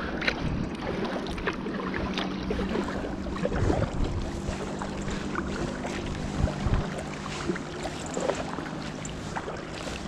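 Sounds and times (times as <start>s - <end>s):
kayak paddle strokes in water: 0.0s - 10.0s
water splashes and drips: 0.0s - 10.0s
wind rumble on microphone: 0.0s - 10.0s.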